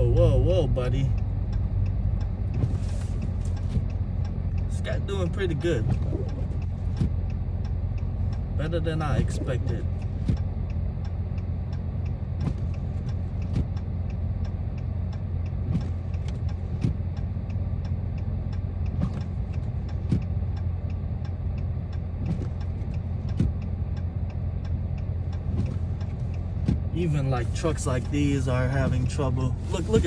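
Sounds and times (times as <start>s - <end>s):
car engine and tyres droning: 0.0s - 30.0s.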